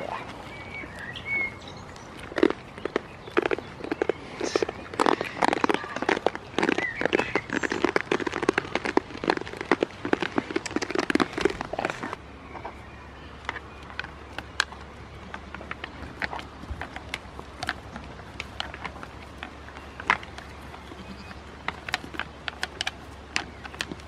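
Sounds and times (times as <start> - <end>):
goats chewing food: 0.0 - 24.0.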